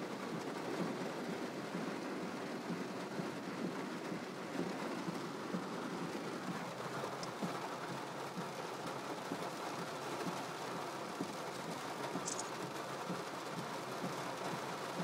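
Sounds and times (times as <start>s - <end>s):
heavy rain on car roof: 0.0s - 15.0s.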